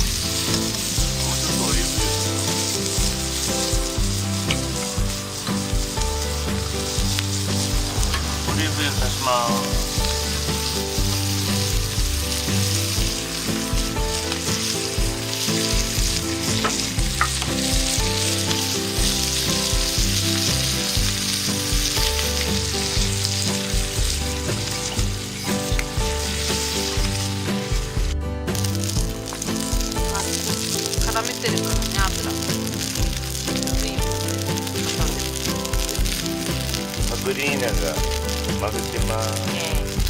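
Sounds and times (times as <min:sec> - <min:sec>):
pasta sizzling in a pan: 0:00.0 - 0:40.0.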